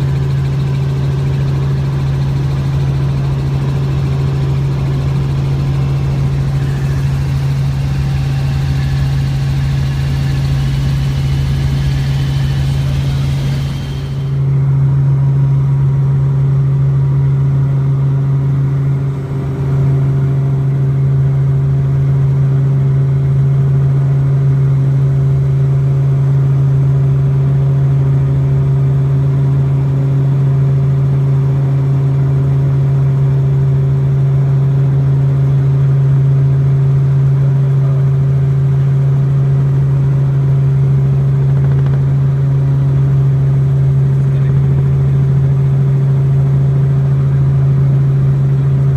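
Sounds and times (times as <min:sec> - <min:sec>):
helicopter engine and rotors drone: 0:00.0 - 0:48.9.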